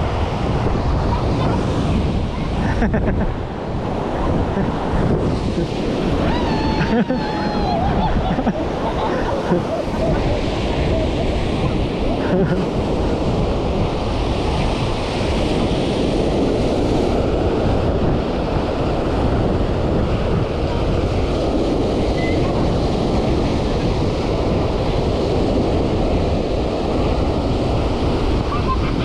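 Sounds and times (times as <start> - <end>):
surf breaking on beach: 0.0 - 29.0
wind buffeting microphone: 0.0 - 29.0.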